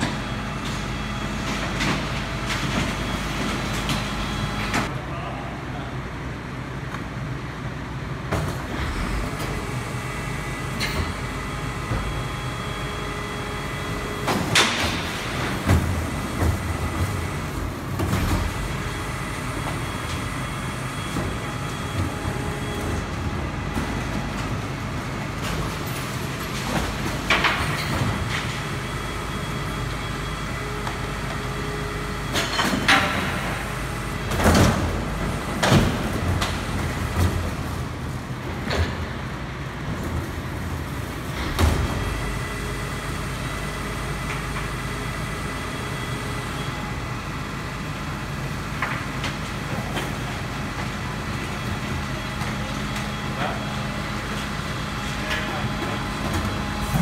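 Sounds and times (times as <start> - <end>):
garbage truck engine running: 0.0 - 57.0.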